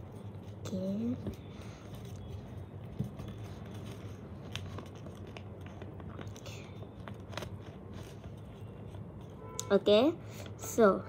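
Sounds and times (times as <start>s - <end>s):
paper crinkling and crackling: 0.0s - 9.4s
low steady hum: 0.0s - 11.0s.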